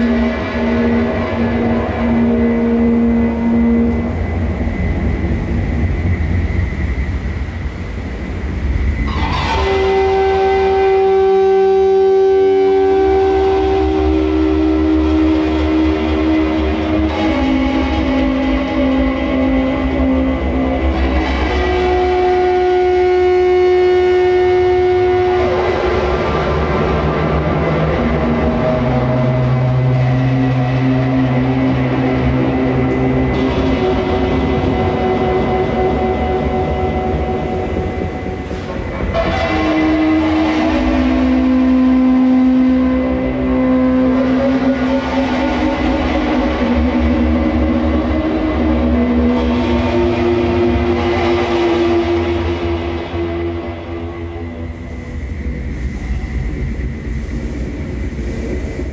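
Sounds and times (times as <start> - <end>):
electronic drone chord: 0.0 - 58.9
low rumble: 0.0 - 58.9.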